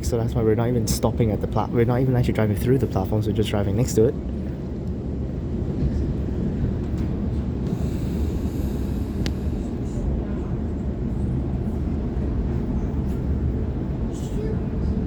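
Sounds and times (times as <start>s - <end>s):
electric train rumbling at speed: 0.0s - 15.0s.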